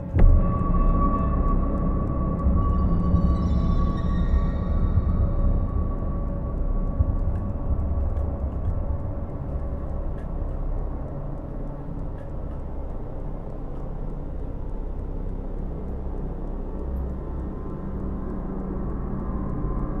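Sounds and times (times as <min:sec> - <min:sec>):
deep low rumbling drone: 0:00.0 - 0:20.0.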